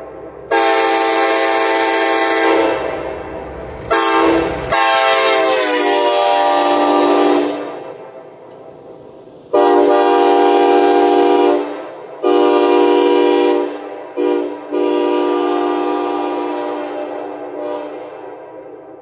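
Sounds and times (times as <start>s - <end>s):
locomotive air horn blasts: 0.5s - 8.1s, 9.5s - 18.7s.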